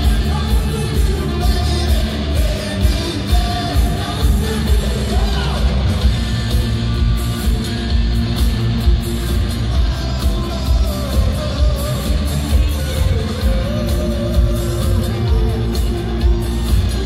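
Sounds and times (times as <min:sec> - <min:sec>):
bass guitar: 0:00.0 - 0:17.0
drums: 0:00.0 - 0:17.0
electric guitar: 0:00.0 - 0:17.0.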